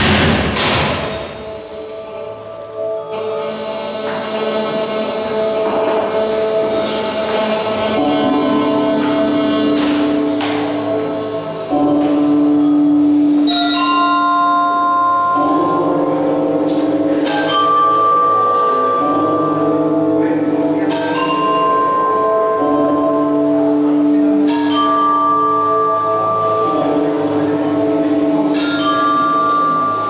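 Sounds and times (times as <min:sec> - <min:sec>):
slow bell-like music: 0:01.1 - 0:30.0.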